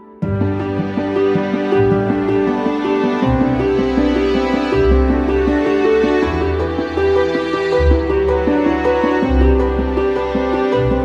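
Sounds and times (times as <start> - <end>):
low bass: 0.2 - 11.0.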